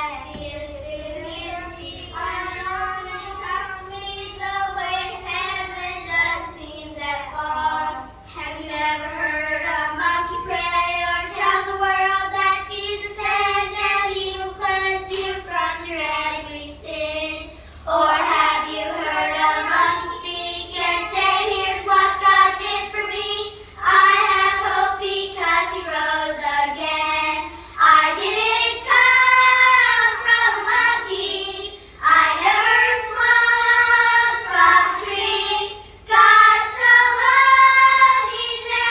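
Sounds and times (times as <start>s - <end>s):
children singing in unison: 0.0s - 38.9s.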